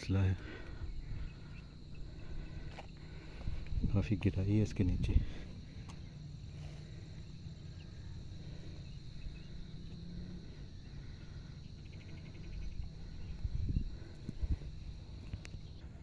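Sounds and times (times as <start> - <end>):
high-pitched insect drone: 0.0 - 16.0
rapid insect chirring: 0.0 - 16.0
low microphone rumble: 0.8 - 15.3.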